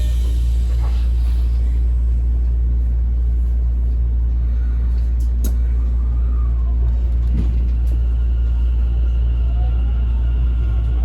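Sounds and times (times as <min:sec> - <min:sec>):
train rumble from inside: 0:00.0 - 0:11.0.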